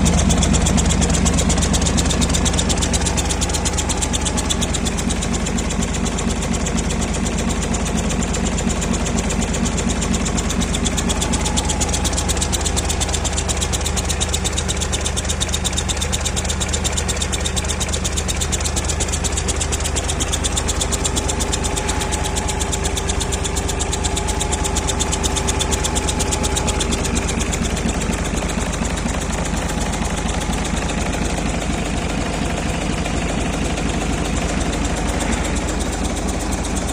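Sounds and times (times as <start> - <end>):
diesel truck engine idling: 0.0 - 36.9.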